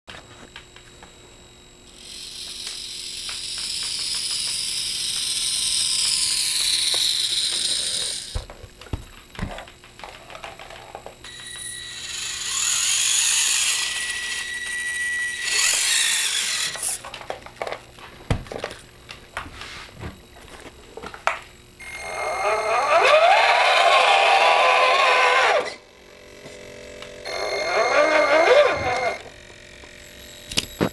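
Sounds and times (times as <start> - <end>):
rc truck motors whining: 1.9 - 8.6, 9.5 - 17.8, 20.6 - 30.9.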